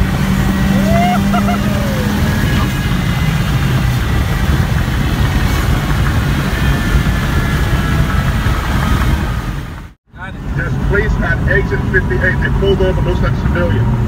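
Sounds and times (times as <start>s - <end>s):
car interior road drone: 0.0s - 14.0s.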